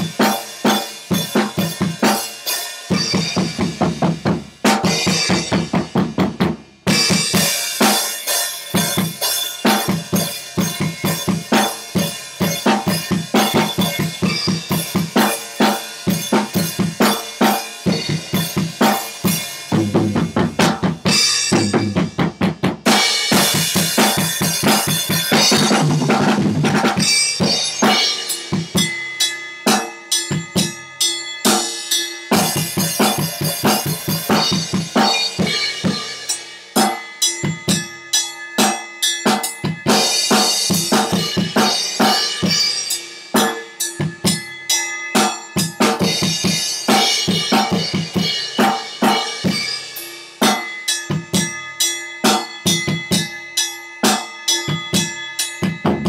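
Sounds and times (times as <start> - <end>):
fast drum kit playing: 0.0 - 29.1, 29.7 - 30.8, 31.4 - 37.9, 38.6 - 44.5, 45.2 - 51.6, 52.2 - 53.3, 54.0 - 56.0.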